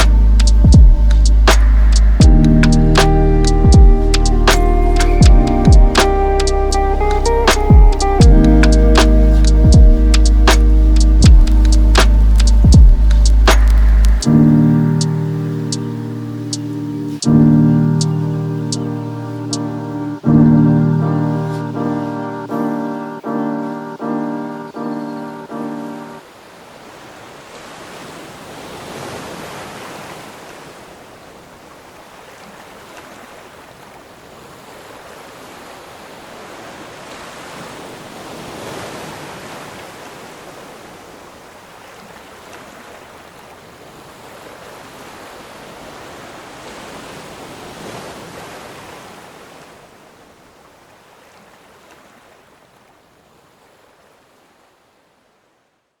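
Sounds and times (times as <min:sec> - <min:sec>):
sea waves washing on shore: 0:00.0 - 0:55.2.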